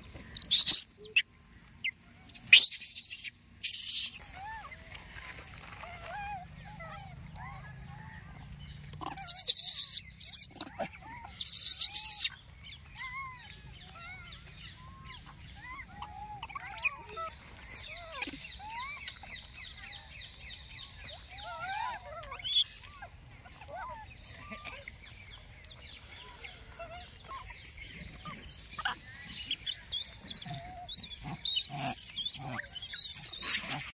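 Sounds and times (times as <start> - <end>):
animal chirps and calls: 0.3 - 8.0, 8.9 - 33.9.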